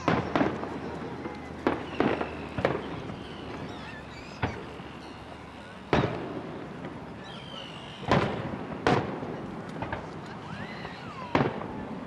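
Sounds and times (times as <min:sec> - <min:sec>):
faint fireworks pops: 0:00.0 - 0:04.8, 0:05.9 - 0:12.0
fireworks bangs: 0:00.0 - 0:05.1, 0:05.9 - 0:12.0.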